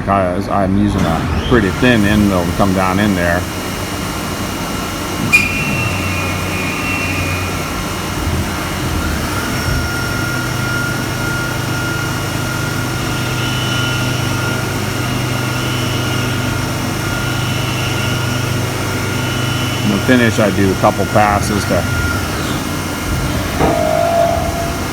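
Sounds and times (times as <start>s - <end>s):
low machine hum: 0.0s - 24.9s
high whine from cutting: 0.9s - 24.9s
milling machine cutting: 0.9s - 24.9s.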